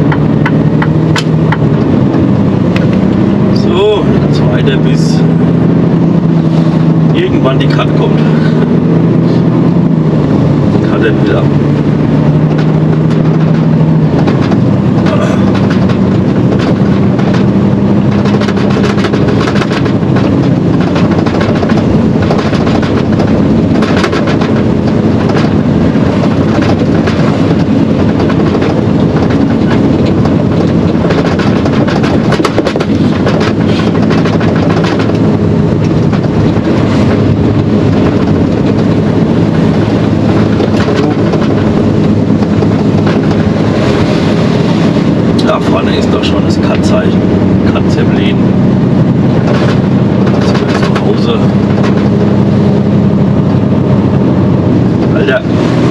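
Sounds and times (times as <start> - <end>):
diesel engine running: 0.0 - 55.9
road noise: 0.0 - 55.9
knocks and rattles: 9.8 - 55.9.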